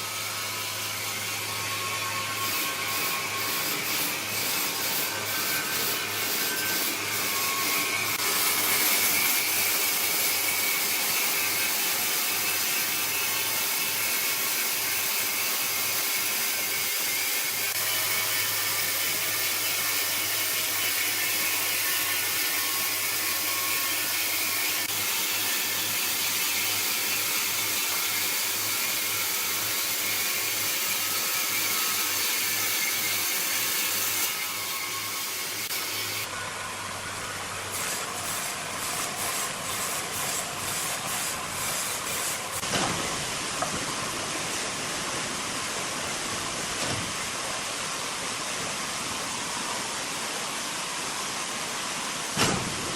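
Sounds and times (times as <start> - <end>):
saw cutting through log: 0.0 - 47.9.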